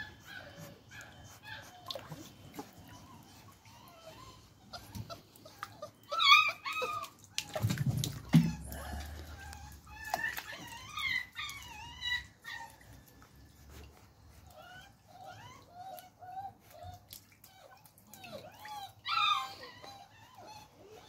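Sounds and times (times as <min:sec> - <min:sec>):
puppy whimpering and whining: 0:00.0 - 0:21.0.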